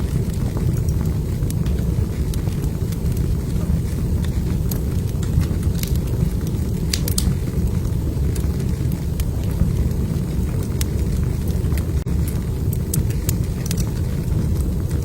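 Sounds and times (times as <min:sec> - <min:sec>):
fire pops and crackles: 0:00.0 - 0:15.0
fire roaring: 0:00.0 - 0:15.0.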